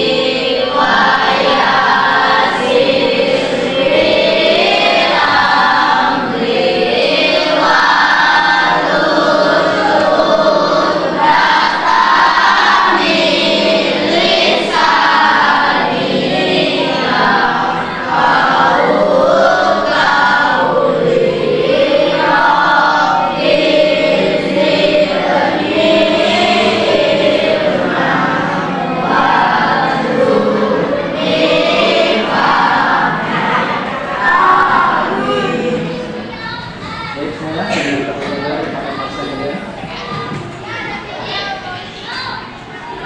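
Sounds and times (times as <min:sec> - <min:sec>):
children singing together: 0:00.0 - 0:43.0.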